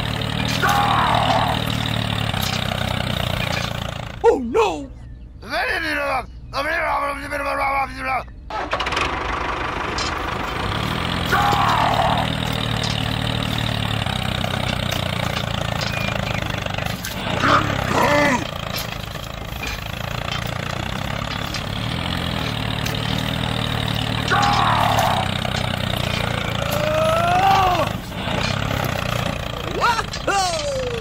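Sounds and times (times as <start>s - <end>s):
tractor engine running: 0.0s - 5.4s, 8.4s - 31.0s.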